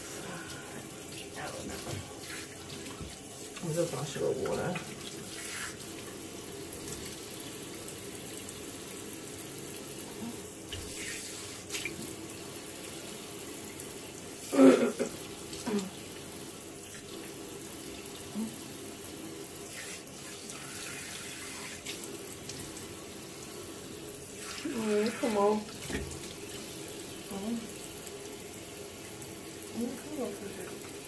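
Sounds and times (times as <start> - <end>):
tap water running into sink: 0.0 - 31.0.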